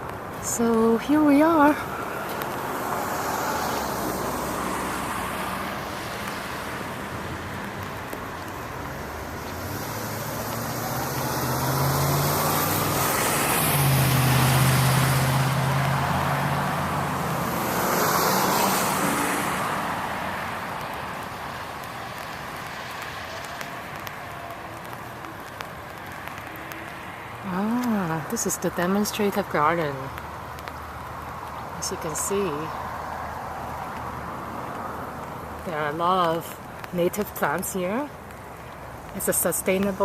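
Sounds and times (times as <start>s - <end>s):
tyres on wet road: 0.0s - 40.0s.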